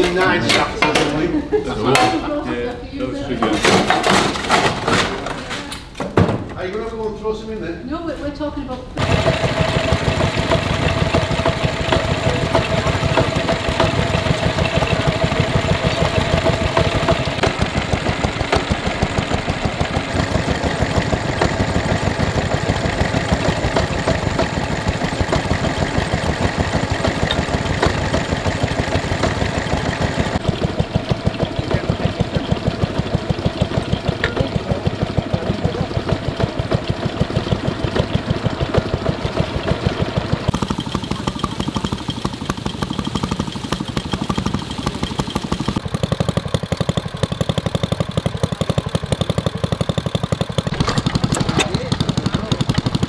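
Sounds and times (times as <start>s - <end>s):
stationary engines chugging: 0.0s - 2.5s, 3.2s - 5.5s, 8.8s - 53.0s.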